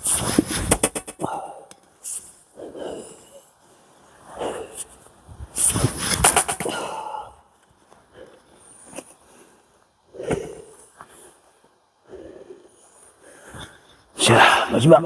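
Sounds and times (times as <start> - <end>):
person breathing hard: 1.2 - 5.0, 5.6 - 14.7.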